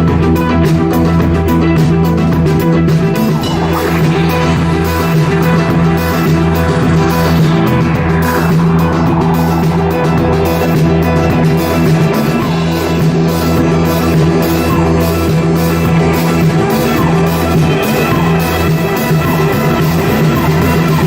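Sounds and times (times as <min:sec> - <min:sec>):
bass line: 0:00.0 - 0:21.0
guitar: 0:00.0 - 0:21.0
keyboard: 0:00.0 - 0:21.0
drum beat: 0:02.4 - 0:20.6.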